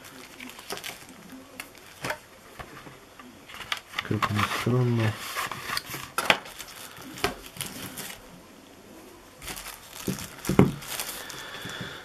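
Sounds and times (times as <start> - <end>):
packaging wrap crinkling: 0.0 - 8.3, 9.4 - 12.0.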